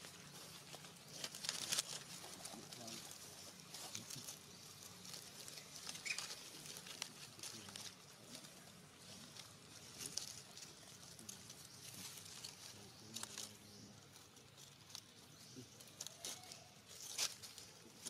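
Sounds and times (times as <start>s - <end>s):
soft crackles and ticks: 0.0s - 18.0s.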